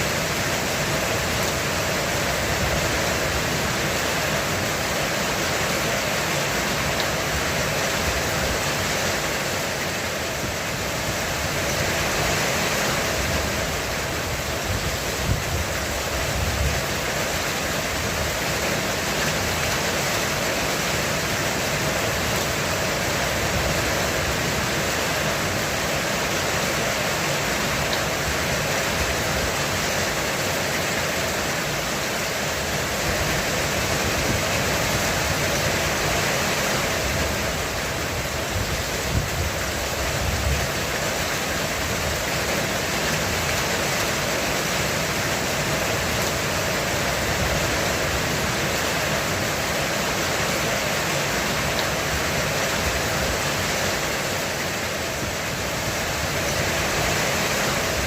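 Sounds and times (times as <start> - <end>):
heavy rain drumming on a roof: 0.0 - 58.0.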